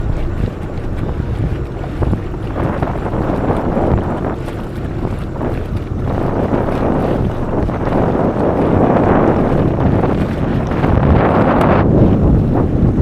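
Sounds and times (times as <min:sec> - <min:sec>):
jet ski engine: 0:00.0 - 0:13.0
water rushing: 0:00.0 - 0:13.0
wind buffeting microphone: 0:00.0 - 0:13.0.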